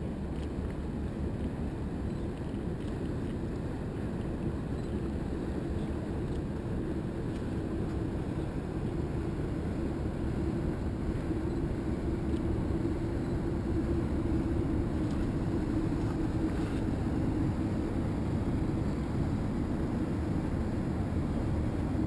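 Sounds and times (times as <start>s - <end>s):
boat motor humming: 0.0s - 22.0s
water noise: 0.0s - 22.0s.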